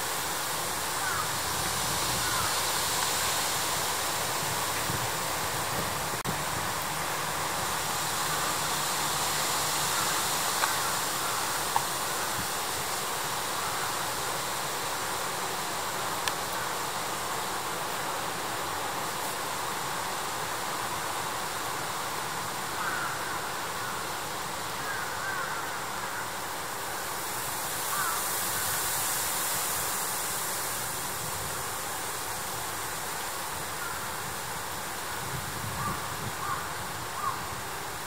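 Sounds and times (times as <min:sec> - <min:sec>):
outdoor rushing hiss: 0:00.0 - 0:38.0.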